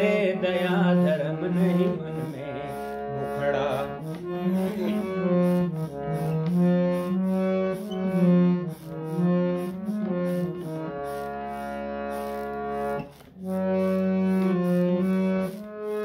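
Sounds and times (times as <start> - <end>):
harmonium playing: 0.0 - 16.0.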